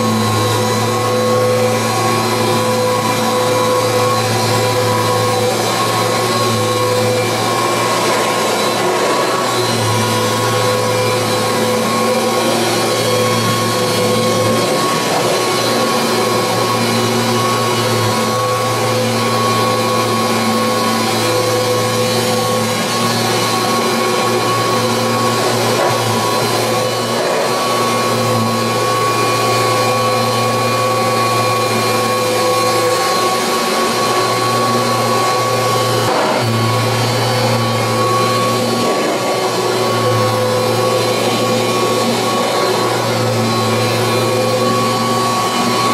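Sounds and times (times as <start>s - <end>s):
upright vacuum cleaner running: 0.0s - 45.9s.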